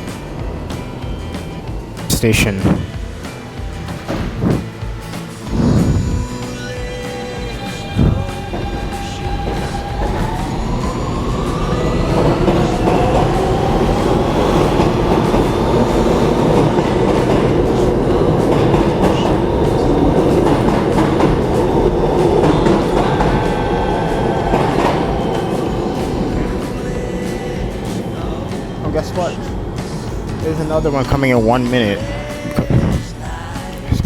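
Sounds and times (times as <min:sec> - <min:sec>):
train motors whining: 0:00.0 - 0:33.9
train rumbling on rails: 0:00.0 - 0:34.0.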